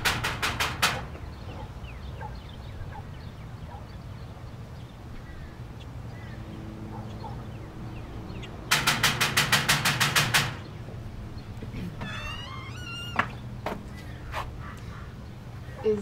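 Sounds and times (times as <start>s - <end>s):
faint birds chirping: 1.0s - 8.8s, 10.3s - 16.0s.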